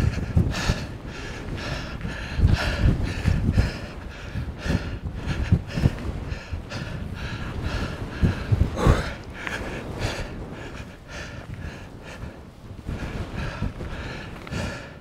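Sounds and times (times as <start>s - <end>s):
person breathing heavily: 0.0s - 15.0s
wind buffeting microphone: 0.0s - 15.0s.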